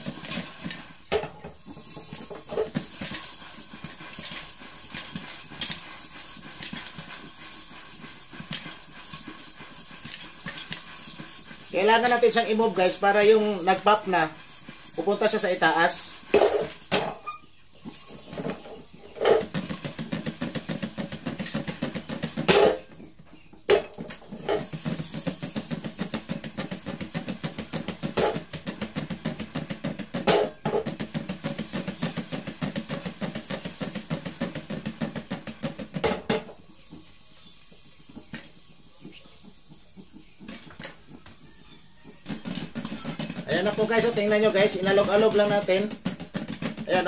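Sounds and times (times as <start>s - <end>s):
popcorn popping in a shaken pan: 0.0s - 47.0s.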